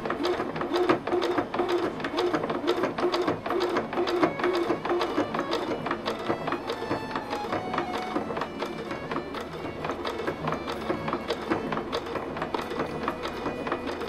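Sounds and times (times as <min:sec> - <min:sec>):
sewing machine knocking through fabric: 0:00.0 - 0:14.0.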